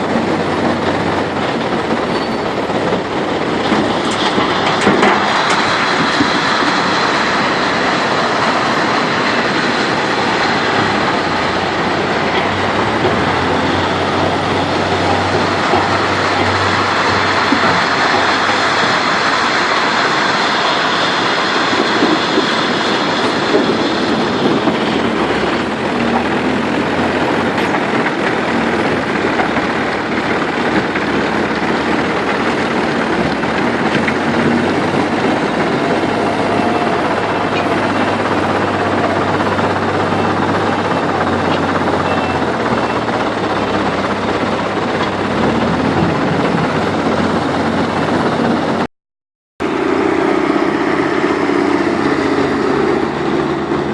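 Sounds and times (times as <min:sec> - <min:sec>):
stone crusher machinery rumbling: 0:00.0 - 0:48.9.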